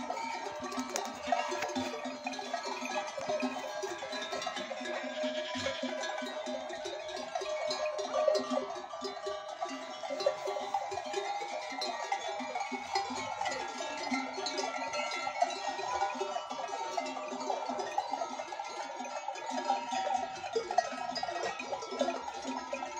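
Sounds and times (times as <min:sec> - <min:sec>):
goats bleating: 0:00.0 - 0:18.8
goat bells clanking: 0:00.0 - 0:22.9.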